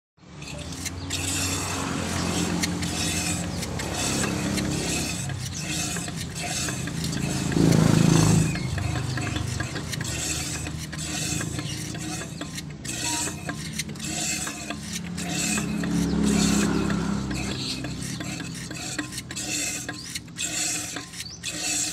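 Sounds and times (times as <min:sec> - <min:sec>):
engine revving: 0:00.2 - 0:21.9
two-stroke engine idling roughly: 0:00.5 - 0:21.9.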